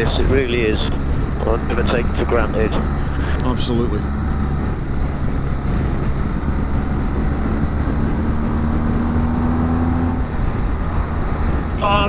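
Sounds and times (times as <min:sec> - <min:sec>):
motorcycle engine cruising: 0:00.0 - 0:12.0
tyre road noise: 0:00.0 - 0:12.0
wind noise: 0:00.0 - 0:12.0.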